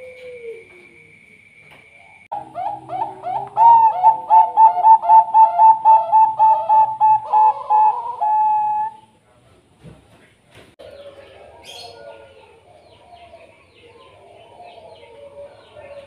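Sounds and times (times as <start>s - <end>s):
dove cooing: 0.0s - 1.0s, 2.1s - 9.1s, 10.8s - 16.0s.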